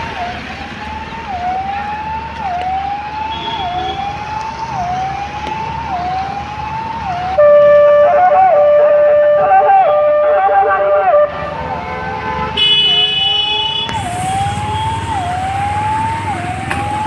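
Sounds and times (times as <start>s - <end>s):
siren wailing: 0.0s - 11.8s, 12.8s - 17.0s.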